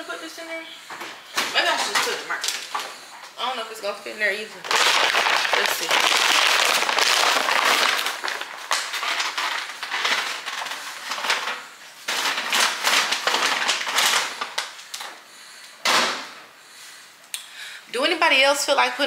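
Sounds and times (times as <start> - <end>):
paper bags rustling and crinkling: 0.9 - 16.3.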